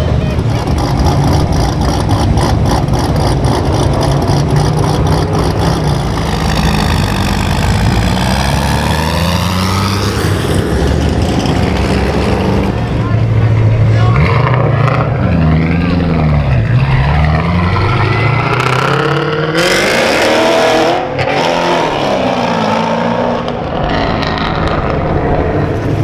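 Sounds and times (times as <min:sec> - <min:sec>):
car exhaust rumble: 0:00.0 - 0:26.0.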